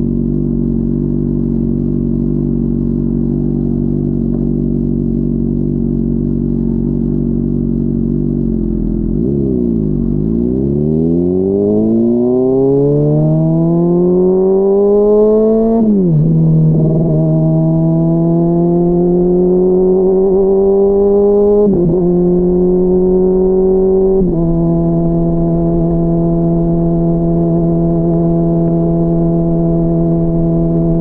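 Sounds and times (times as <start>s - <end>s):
motorcycle engine revving through gears: 0.0s - 31.0s.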